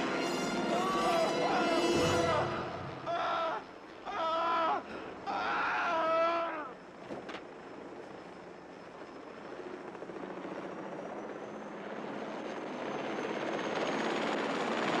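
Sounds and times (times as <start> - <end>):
helicopter rotor and turbine whine: 0.0 - 5.2, 6.4 - 15.0.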